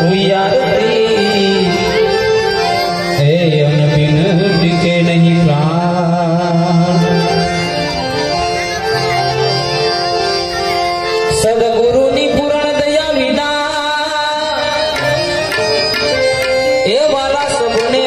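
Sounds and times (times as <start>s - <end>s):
harmonium: 0.0s - 18.0s
tabla: 0.0s - 18.0s.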